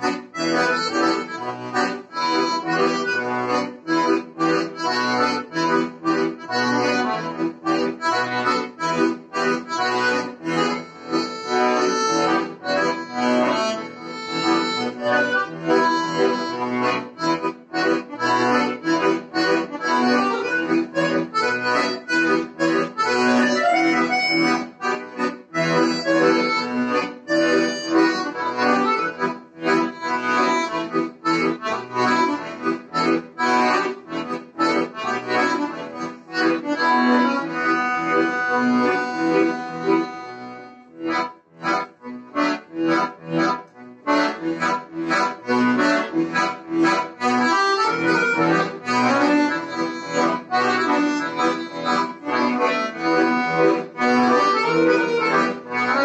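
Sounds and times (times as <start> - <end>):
solo accordion melody: 0.0 - 56.0.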